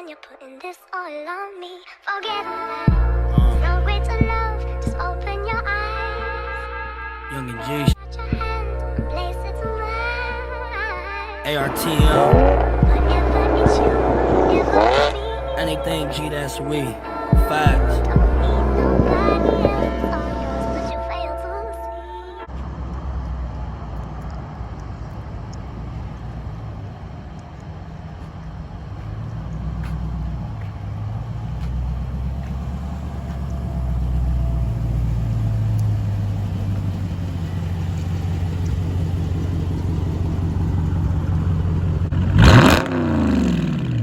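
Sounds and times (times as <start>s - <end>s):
car engine rumbling and revving: 2.9s - 21.2s, 22.4s - 44.0s.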